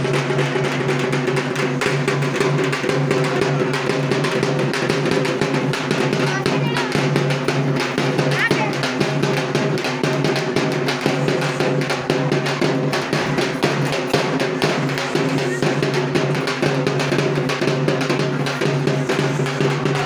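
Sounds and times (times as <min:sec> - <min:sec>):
rapid drumming: 0:00.0 - 0:20.0.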